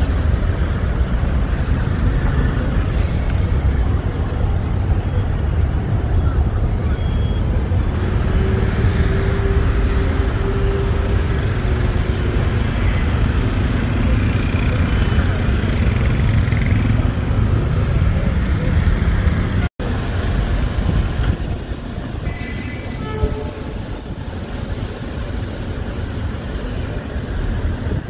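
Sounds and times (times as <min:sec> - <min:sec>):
dense road traffic rumble: 0:00.0 - 0:28.0.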